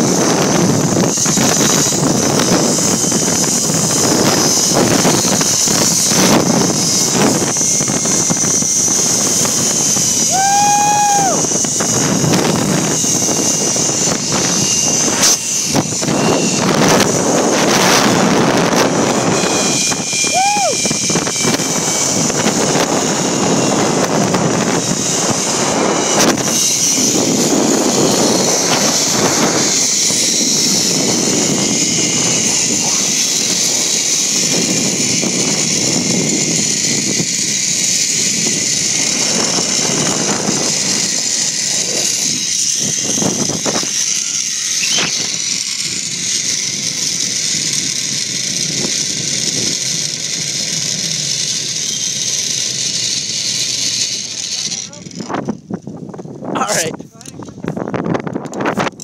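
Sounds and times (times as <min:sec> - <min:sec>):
trolley hissing along cable: 0:00.0 - 0:55.7
wind buffeting microphone: 0:00.0 - 0:59.0.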